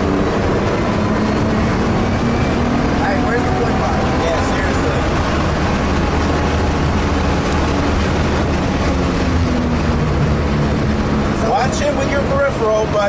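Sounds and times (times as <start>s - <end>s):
car engine running hard: 0.0s - 13.0s
road and wind noise: 0.0s - 13.0s.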